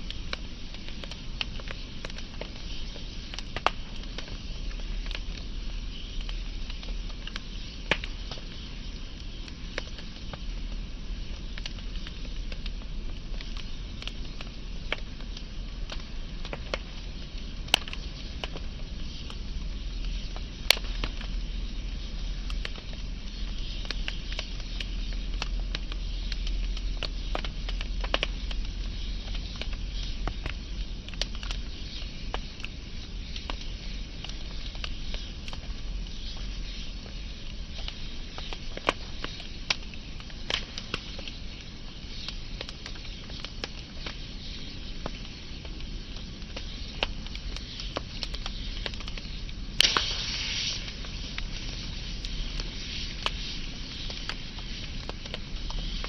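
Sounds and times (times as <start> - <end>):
fire hissing: 0.0 - 56.0
wood fire crackling and popping: 0.0 - 56.0.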